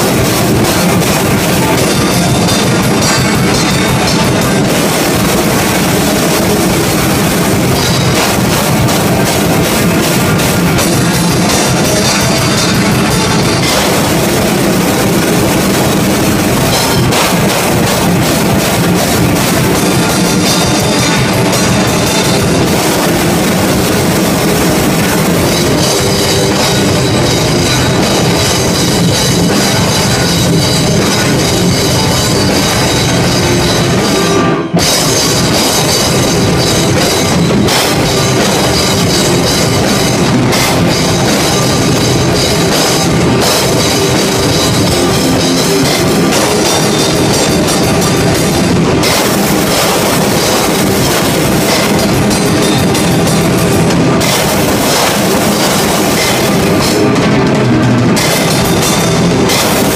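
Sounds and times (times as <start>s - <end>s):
blast-beat drumming: 0.0s - 59.9s
cymbals: 0.0s - 59.9s
distorted guitar: 0.0s - 59.9s.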